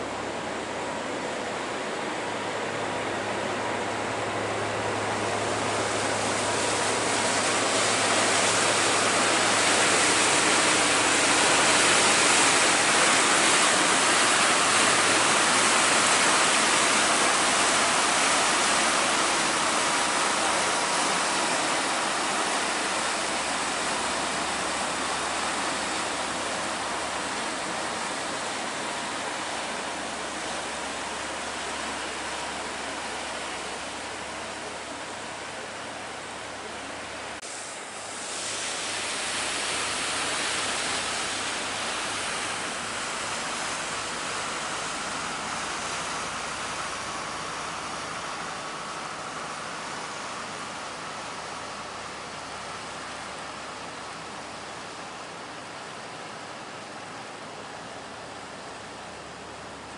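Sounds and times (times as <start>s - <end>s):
faint low engine hum: 0.0s - 59.9s
propeller churning water: 0.0s - 59.9s.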